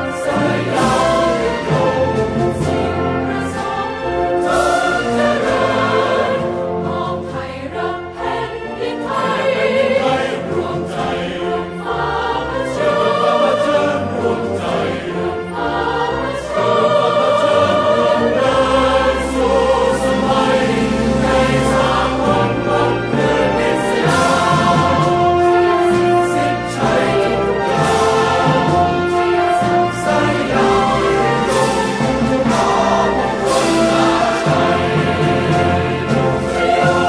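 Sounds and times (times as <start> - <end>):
choir singing sustained notes: 0.0 - 37.0.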